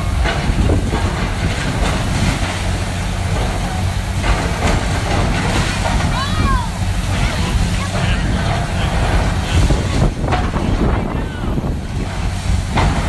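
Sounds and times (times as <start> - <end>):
building being broken up: 0.0 - 11.7
diesel machinery engine drone: 0.0 - 13.0.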